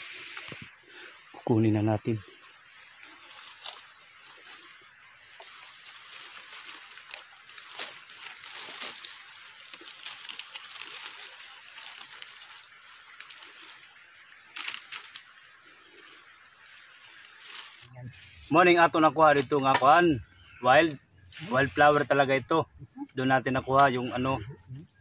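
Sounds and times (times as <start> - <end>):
leaves and branches rustling: 0.0 - 25.0.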